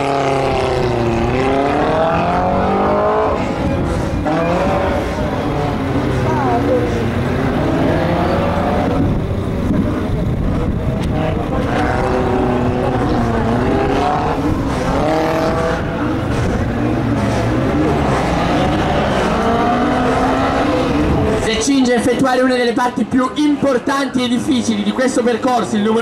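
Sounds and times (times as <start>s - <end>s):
car engine revving: 0.0s - 25.4s.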